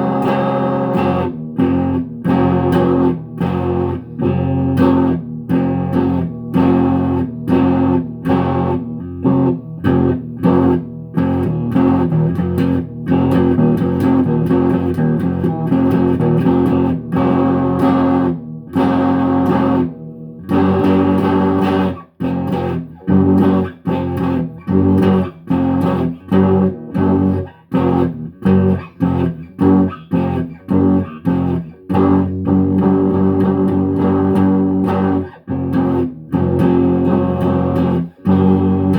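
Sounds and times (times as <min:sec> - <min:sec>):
guitar chords: 0:00.0 - 0:38.9.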